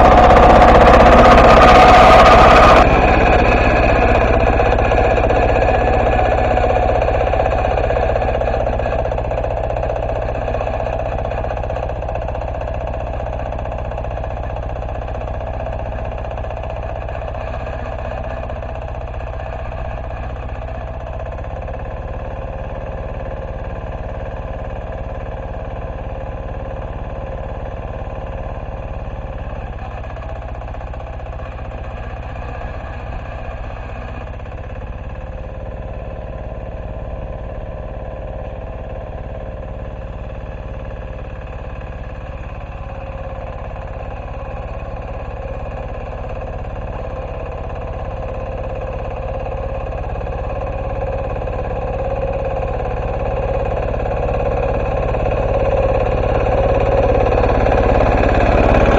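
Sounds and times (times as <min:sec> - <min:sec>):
diesel tractor engine running: 0:00.0 - 0:58.9.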